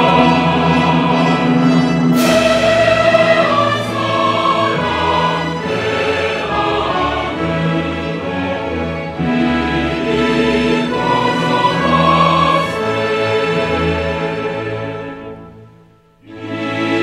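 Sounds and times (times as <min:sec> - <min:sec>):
choir holding long chords: 0:00.0 - 0:17.0.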